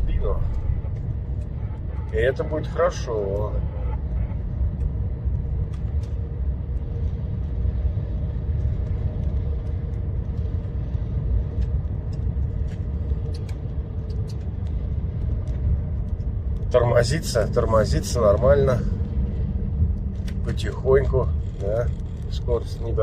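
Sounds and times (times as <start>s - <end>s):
faint steady hum: 0.0s - 23.0s
vehicle engine and road rumble: 0.0s - 23.0s.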